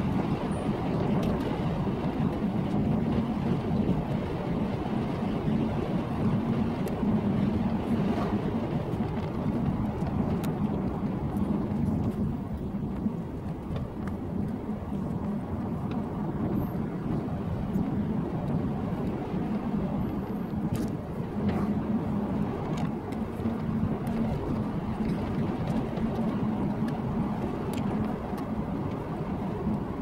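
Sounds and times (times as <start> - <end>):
car engine drone: 0.0 - 30.0
road and tyre rumble: 0.0 - 30.0.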